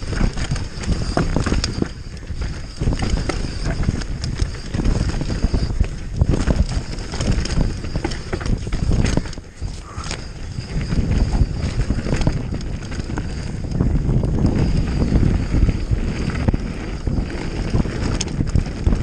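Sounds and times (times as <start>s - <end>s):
mountain bike rattling: 0.0s - 19.0s
tyres rumbling over dirt: 0.0s - 19.0s
wind rushing over microphone: 0.0s - 19.0s.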